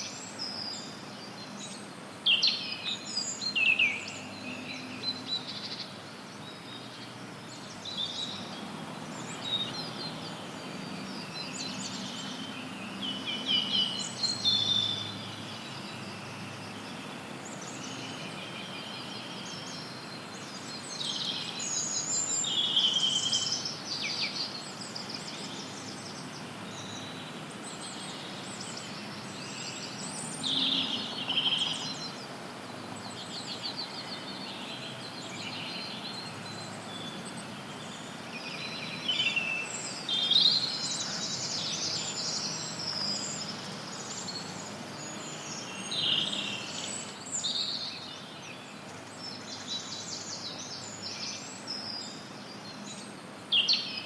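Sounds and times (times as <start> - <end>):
white noise hiss: 0.0 - 54.0
wild birds chirping and singing: 0.0 - 54.0.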